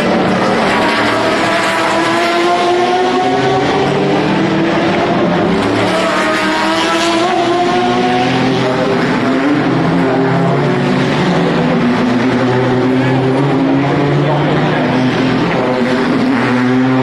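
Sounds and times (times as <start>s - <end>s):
race car engines accelerating: 0.0s - 17.0s.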